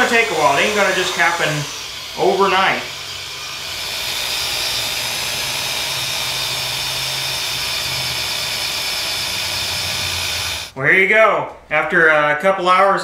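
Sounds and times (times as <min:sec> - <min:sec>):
rotary tool buffing metal whine: 0:00.0 - 0:10.7.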